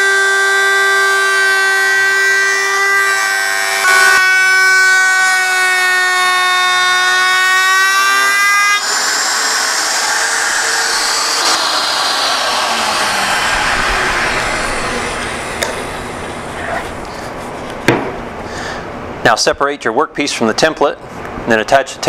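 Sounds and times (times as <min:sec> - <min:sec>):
router high whine: 0:00.0 - 0:18.4
motor winding down hum: 0:00.0 - 0:18.5.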